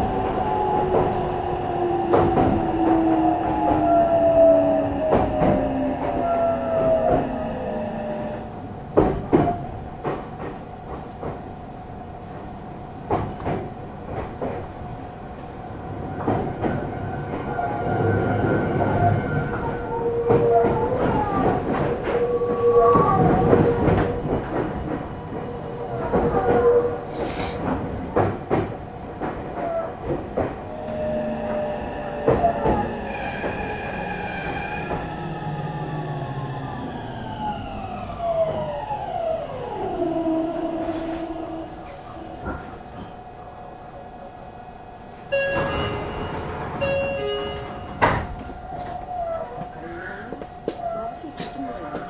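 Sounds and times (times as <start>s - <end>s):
train running noise: 5.0s - 52.0s.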